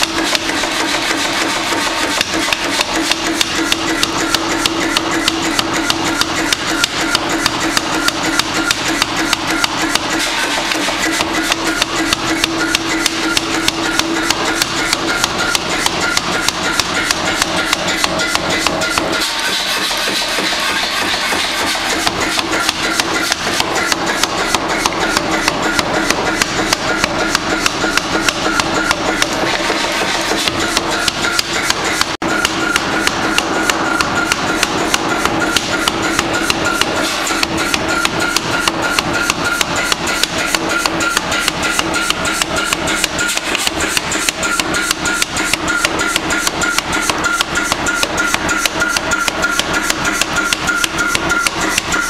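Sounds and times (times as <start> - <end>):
power hammer blows: 0.0 - 52.0.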